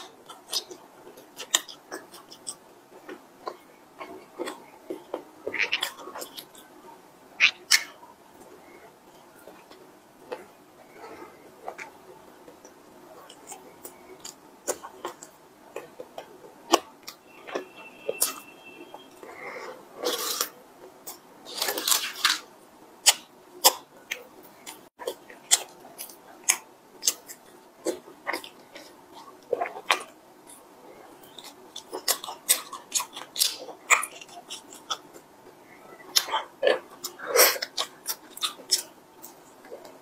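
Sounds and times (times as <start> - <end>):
close-miked eating: 0.0 - 40.0.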